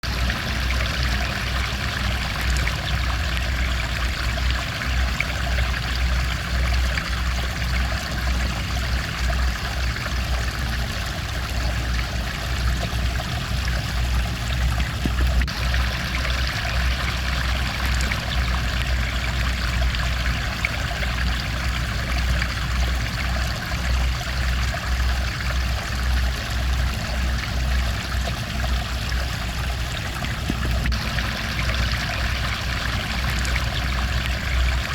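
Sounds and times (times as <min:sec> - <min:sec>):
stream water running and trickling: 0:00.0 - 0:34.9.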